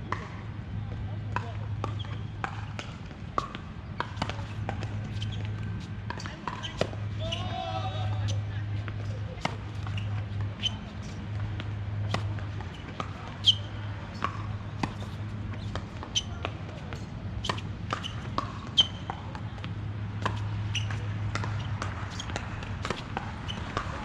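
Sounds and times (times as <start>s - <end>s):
ball bouncing on hard court: 1.2s - 7.4s, 8.3s - 24.0s.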